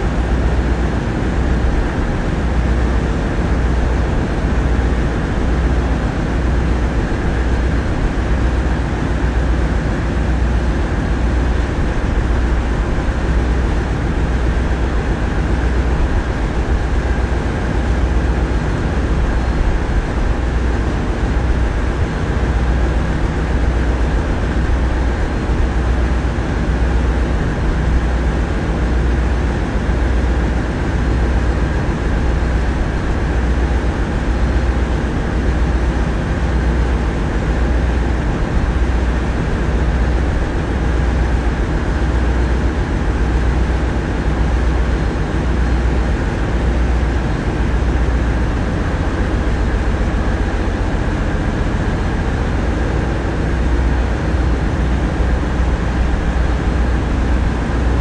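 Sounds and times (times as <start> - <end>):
diesel engines throbbing hum: 0.0 - 58.0.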